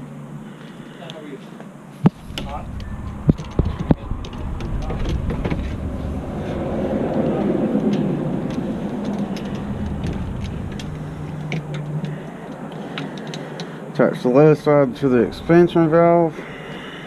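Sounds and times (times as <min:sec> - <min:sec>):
vehicle engine passing by: 0:02.2 - 0:13.5, 0:14.4 - 0:17.0.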